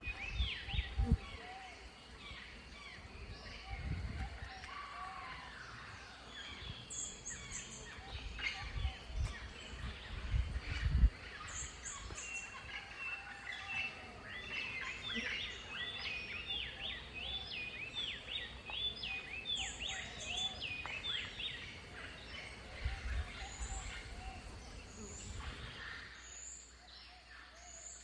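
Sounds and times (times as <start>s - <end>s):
birds calling: 0.0s - 28.0s.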